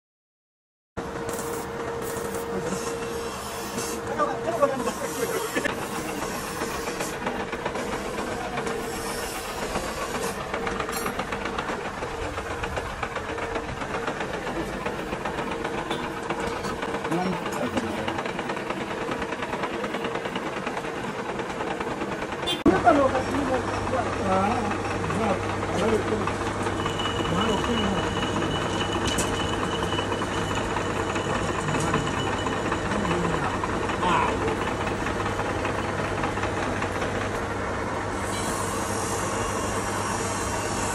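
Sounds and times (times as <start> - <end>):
metal lathe humming: 1.0 - 40.9.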